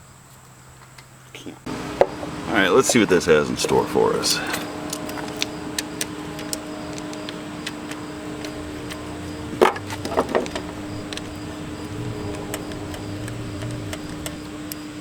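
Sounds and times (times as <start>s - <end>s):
steady hum: 1.6s - 15.0s
small parts clicking and tapping: 2.0s - 15.0s.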